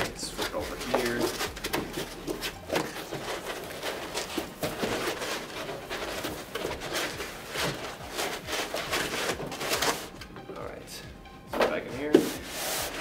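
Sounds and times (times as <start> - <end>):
cardboard box scraping: 0.2 - 10.1, 12.2 - 13.0.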